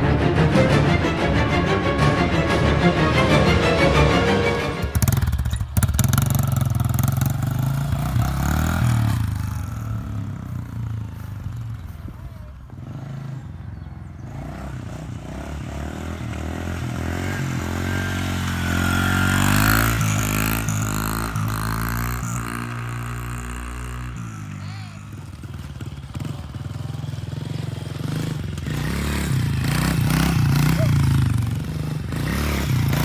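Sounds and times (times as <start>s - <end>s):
dirt bike engine revving: 0.0s - 11.9s, 12.7s - 33.0s.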